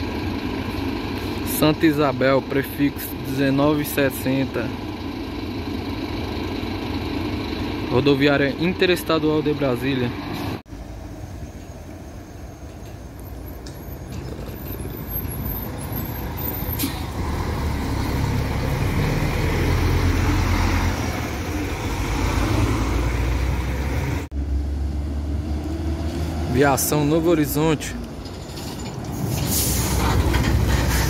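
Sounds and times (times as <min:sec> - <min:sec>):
bus passing by: 0:00.0 - 0:31.0.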